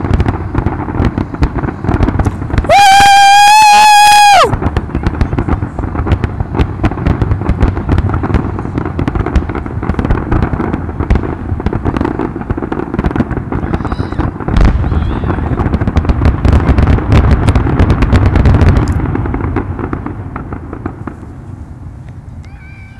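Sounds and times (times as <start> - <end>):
fireworks booming and crackling: 0.0 - 22.9.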